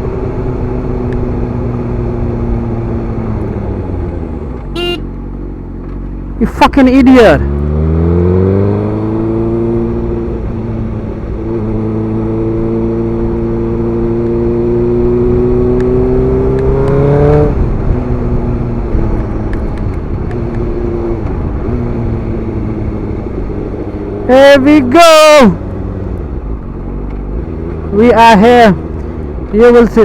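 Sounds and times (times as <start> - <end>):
motorcycle engine revving: 0.0 - 29.8.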